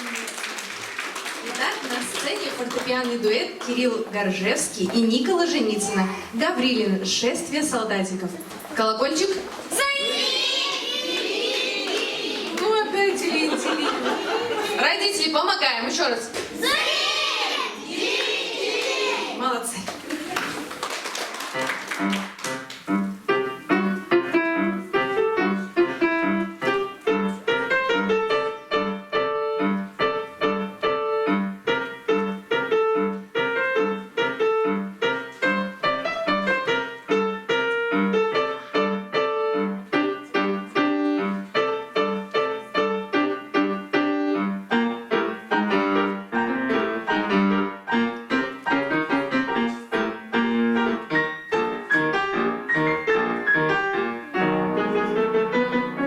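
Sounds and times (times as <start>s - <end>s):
piano duet march: 0.0s - 56.0s.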